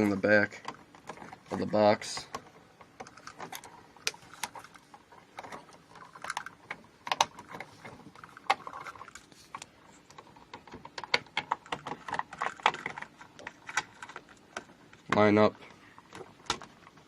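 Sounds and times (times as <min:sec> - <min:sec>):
wires clicking and rattling in box: 0:00.0 - 0:17.0.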